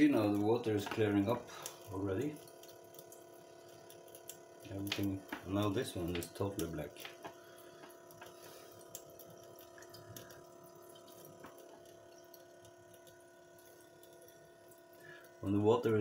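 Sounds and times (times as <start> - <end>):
water pump humming: 0.0 - 16.0.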